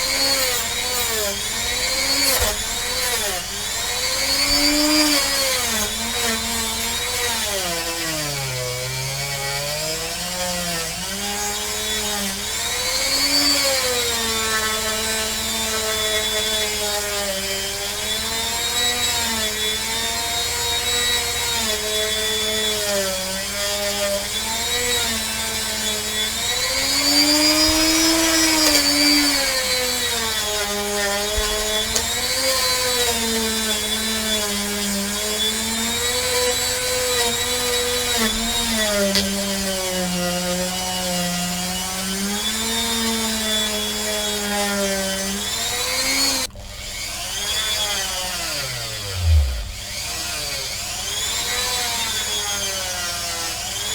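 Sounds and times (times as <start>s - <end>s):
rotary tool motor whine: 0.0s - 8.1s, 9.0s - 53.9s.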